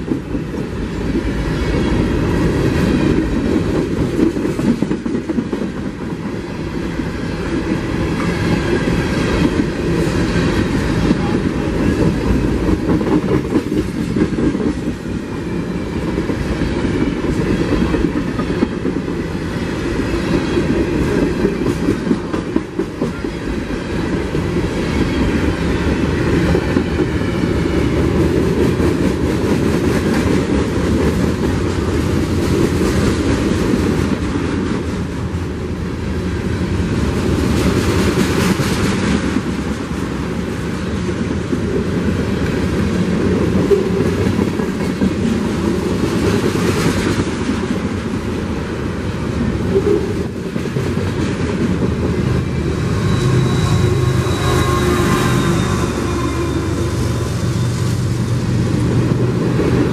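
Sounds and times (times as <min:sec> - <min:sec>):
diesel locomotive engine drone: 0:00.0 - 0:59.9
freight train wheels rumbling: 0:00.0 - 0:59.9.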